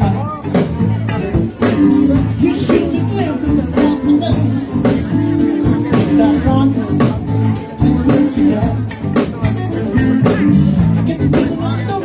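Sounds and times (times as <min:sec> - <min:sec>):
drum kit beat: 0:00.0 - 0:12.0
live rock band jam: 0:00.0 - 0:12.0
walking bass line: 0:00.0 - 0:12.0.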